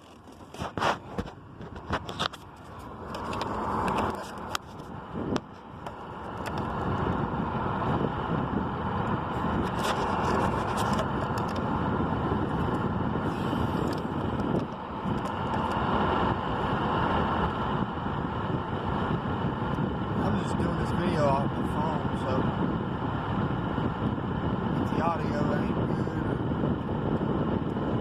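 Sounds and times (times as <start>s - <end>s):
rushing rumbling noise: 0.0s - 28.0s.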